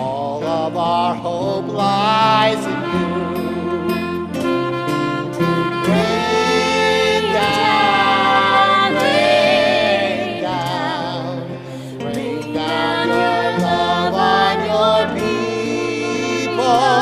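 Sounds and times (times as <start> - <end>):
acoustic guitar accompaniment: 0.0 - 17.0
tenor saxophone melody: 2.0 - 17.0.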